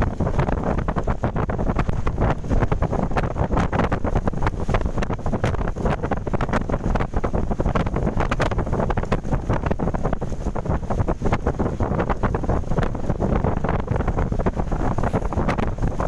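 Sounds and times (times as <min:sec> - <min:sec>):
gale wind on microphone: 0:00.0 - 0:16.0.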